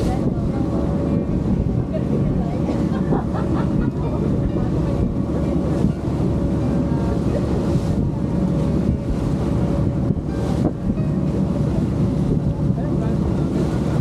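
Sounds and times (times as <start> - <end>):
motorboat engine drone: 0.0 - 14.0
water rushing past hull: 0.0 - 14.0
wind buffeting microphone: 0.0 - 14.0.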